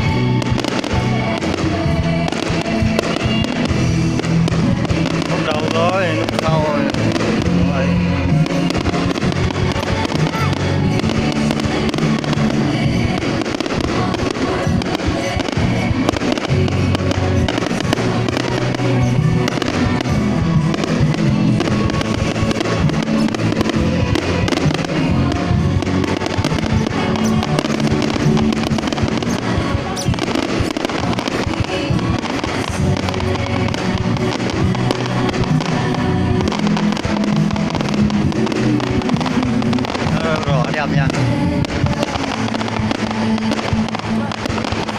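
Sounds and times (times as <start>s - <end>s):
fireworks bangs and crackles: 0.0s - 44.9s
loud music: 0.0s - 44.9s.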